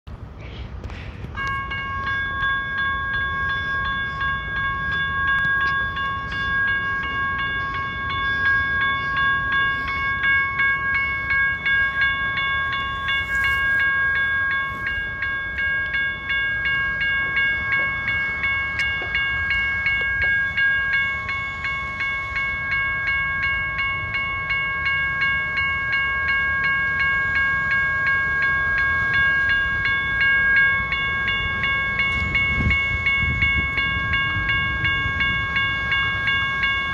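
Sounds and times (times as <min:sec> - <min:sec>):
train passing: 0:00.1 - 0:36.9.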